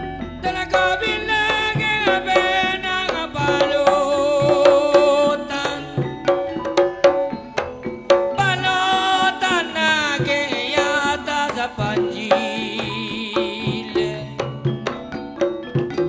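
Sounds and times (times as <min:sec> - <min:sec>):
hand drum strokes: 0:00.0 - 0:16.0
sliding melodic lines: 0:00.0 - 0:16.0.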